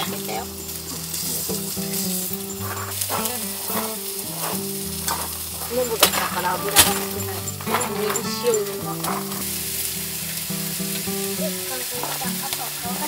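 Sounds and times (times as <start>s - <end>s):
food sizzling: 0.0s - 13.0s
soft background music: 0.0s - 13.0s.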